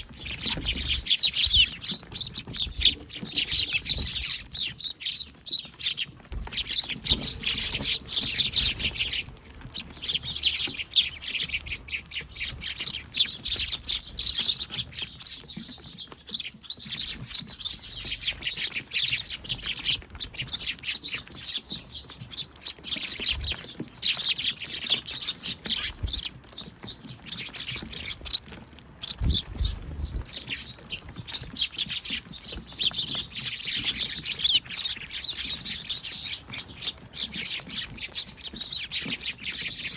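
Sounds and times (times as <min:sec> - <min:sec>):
flock of sparrows chirping: 0:00.0 - 0:39.9.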